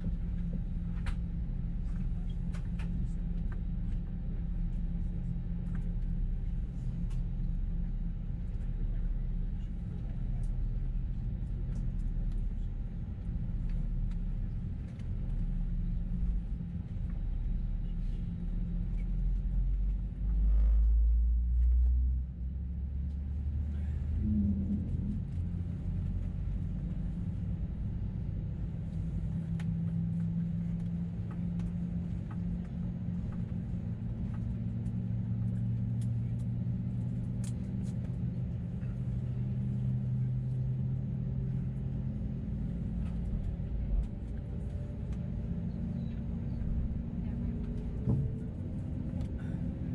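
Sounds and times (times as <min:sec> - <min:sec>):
loud low rumble: 0:00.0 - 0:49.9.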